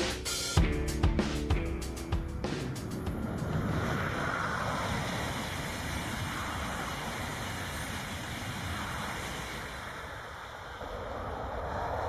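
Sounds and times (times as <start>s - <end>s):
high-speed train passing: 1.6s - 12.0s.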